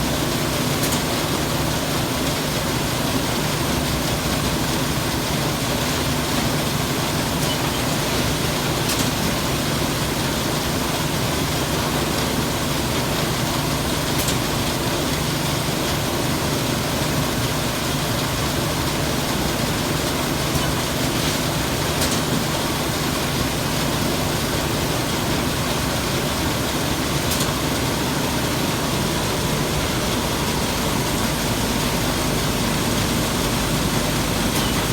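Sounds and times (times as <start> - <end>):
packaging machine humming: 0.0 - 34.9.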